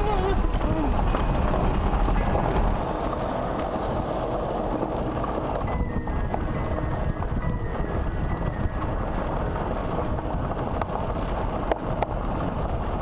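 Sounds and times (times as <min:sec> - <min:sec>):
golf cart running: 0:00.0 - 0:13.0.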